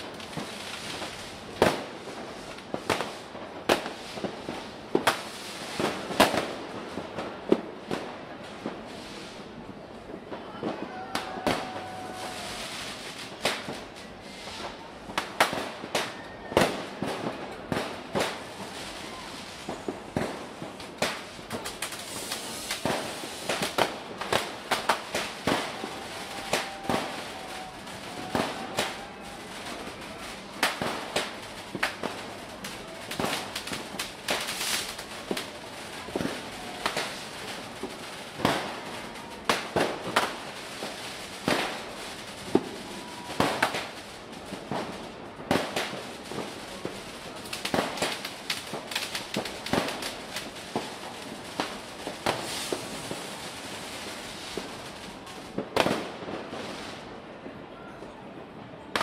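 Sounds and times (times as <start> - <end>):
firecrackers banging: 0.0 - 57.1
distant fireworks crackling: 0.0 - 59.0.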